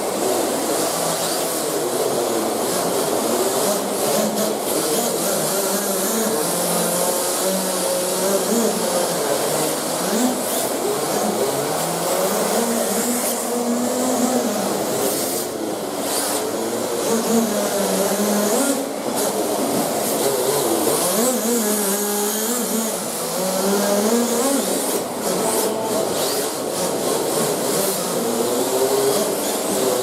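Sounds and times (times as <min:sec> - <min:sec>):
rc car engine buzzing: 0:00.0 - 0:30.0.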